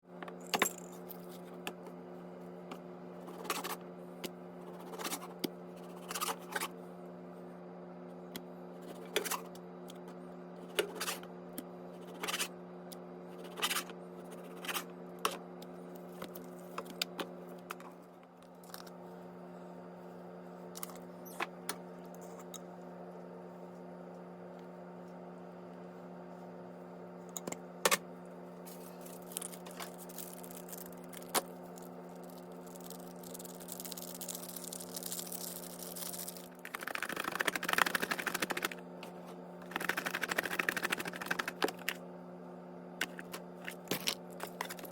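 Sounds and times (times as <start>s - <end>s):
low electrical hum: 0.0s - 44.9s.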